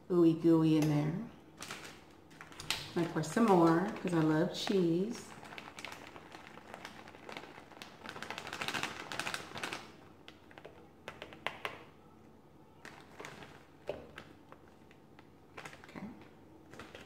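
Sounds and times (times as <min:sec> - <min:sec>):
plastic bag crinkling: 0:01.5 - 0:11.8, 0:12.7 - 0:17.0.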